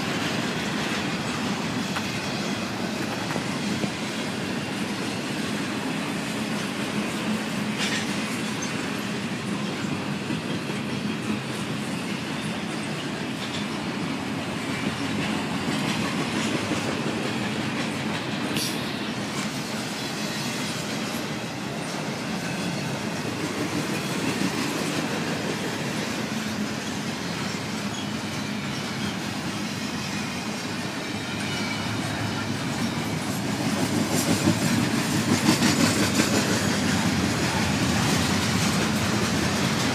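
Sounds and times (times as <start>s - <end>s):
freight train wheels rumbling: 0.0s - 39.9s
train wheel clack: 0.0s - 39.9s.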